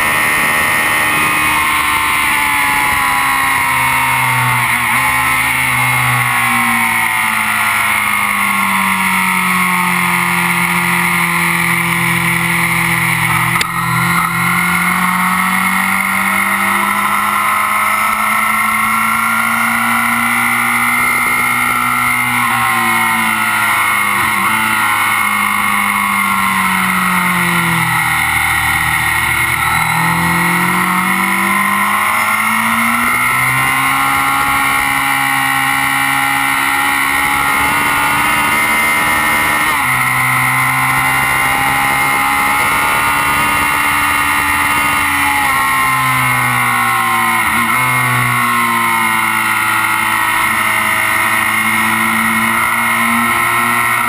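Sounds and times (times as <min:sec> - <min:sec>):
motorcycle engine running hard: 0:00.0 - 0:54.0.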